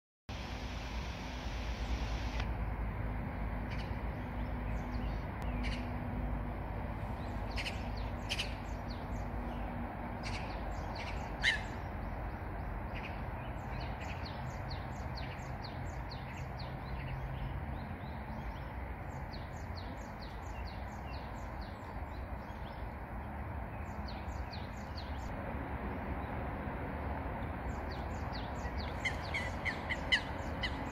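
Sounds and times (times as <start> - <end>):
wild birds chirping: 3.6 - 6.1, 7.0 - 30.9.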